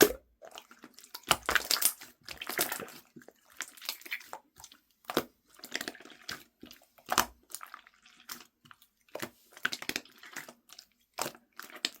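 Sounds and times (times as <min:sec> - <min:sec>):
wet squishing and crackling: 0:00.0 - 0:12.0.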